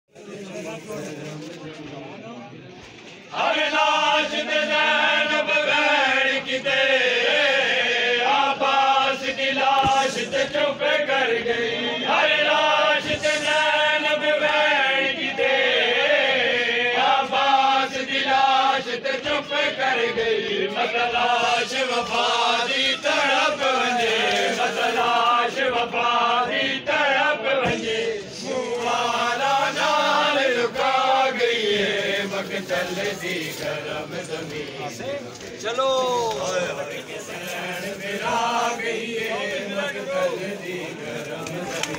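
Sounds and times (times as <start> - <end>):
men chanting a lamentation: 3.3 - 41.9.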